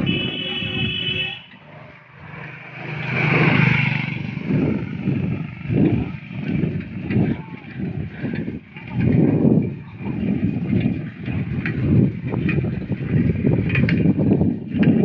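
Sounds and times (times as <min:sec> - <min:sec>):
motorcycle passing by: 0:00.0 - 0:15.0.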